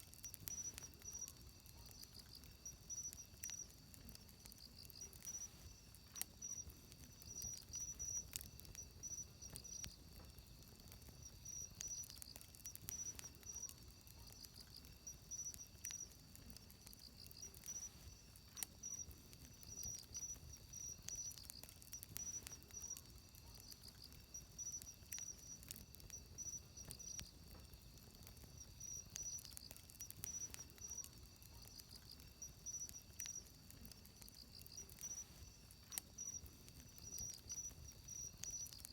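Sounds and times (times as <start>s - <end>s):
campfire crackling and popping: 0.0s - 38.9s
insects chirping in trills: 0.0s - 38.9s.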